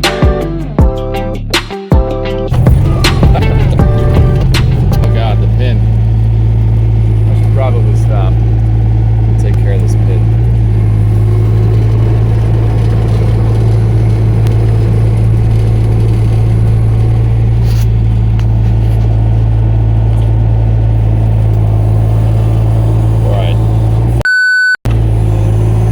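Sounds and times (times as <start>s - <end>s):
excavator engine droning: 2.5s - 25.9s.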